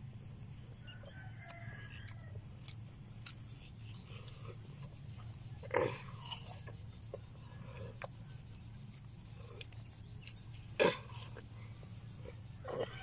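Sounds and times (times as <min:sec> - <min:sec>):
person chewing watermelon: 0:00.0 - 0:13.0.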